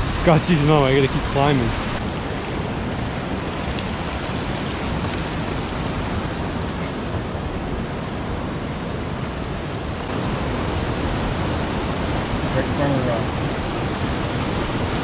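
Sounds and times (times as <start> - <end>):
river water over rapids: 0.3 - 15.0.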